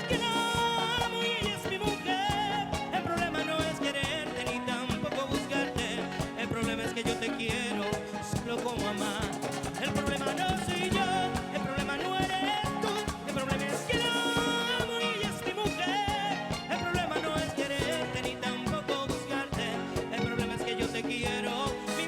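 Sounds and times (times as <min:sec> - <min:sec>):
busy percussion beat: 0:00.0 - 0:22.0
live bachata band playing: 0:00.0 - 0:22.0.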